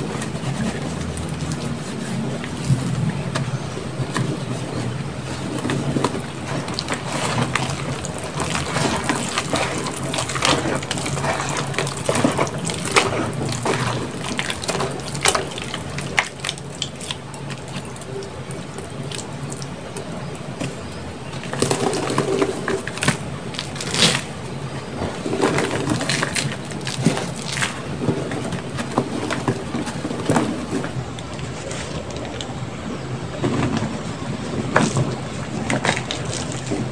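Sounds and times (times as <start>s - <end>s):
hands squishing wet chalk: 0.0s - 36.9s.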